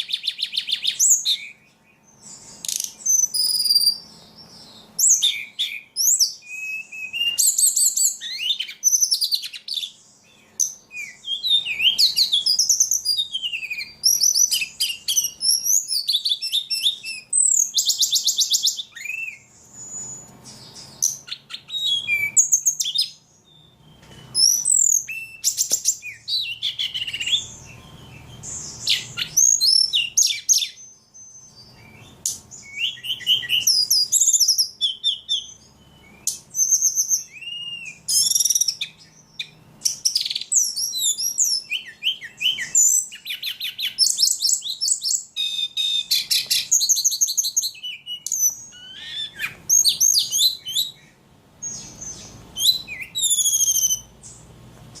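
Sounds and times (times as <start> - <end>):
songbird singing chirps and trills: 0.0 - 55.0.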